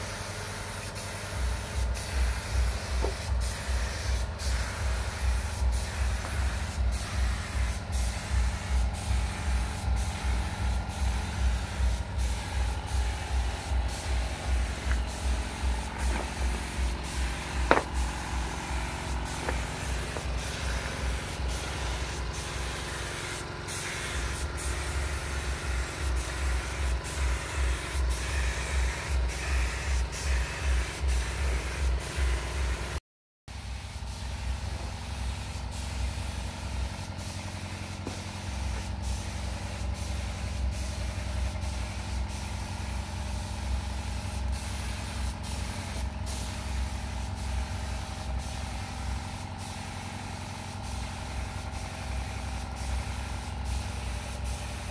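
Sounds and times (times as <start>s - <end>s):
air compressor throbbing hum: 0.0s - 54.9s
compressed air hissing: 0.1s - 33.0s, 33.6s - 54.9s.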